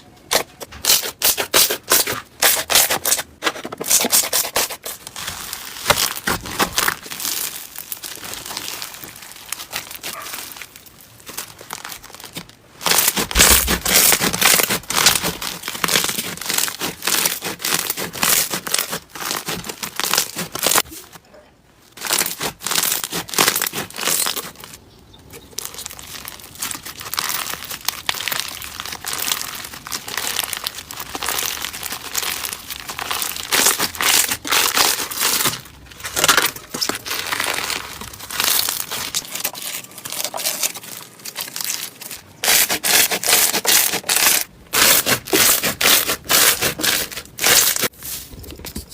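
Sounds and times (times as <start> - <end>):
slime crackling and popping: 3.9 - 20.9, 21.9 - 24.8, 25.5 - 48.0.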